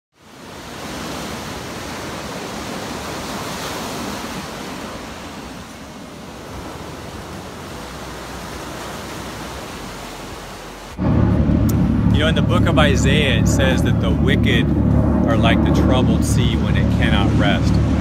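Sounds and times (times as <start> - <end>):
waves breaking on shore: 0.1 - 18.0.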